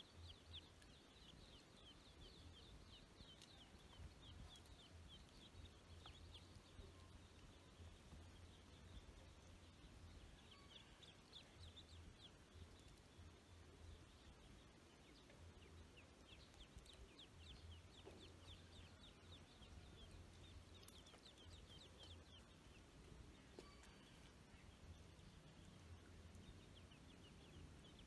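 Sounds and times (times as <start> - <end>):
ducklings peeping: 0.0 - 28.0.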